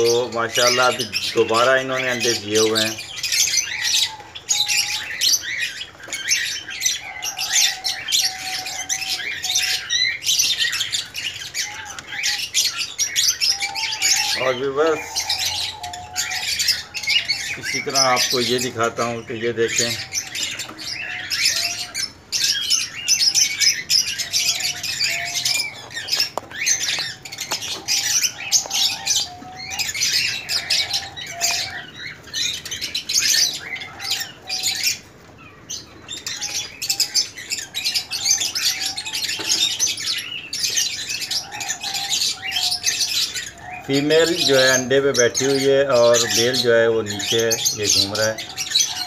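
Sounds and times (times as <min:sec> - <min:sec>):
cage birds chirping and squawking: 0:00.0 - 0:49.0.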